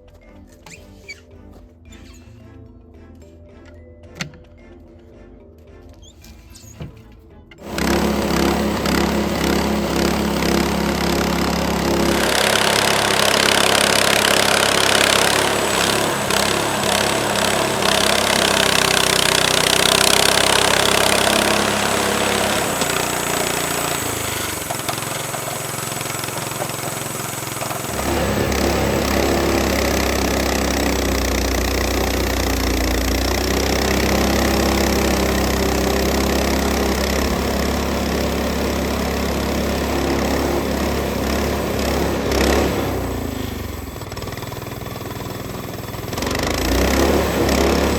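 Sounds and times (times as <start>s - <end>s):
sawmill petrol engine running: 7.6s - 47.9s.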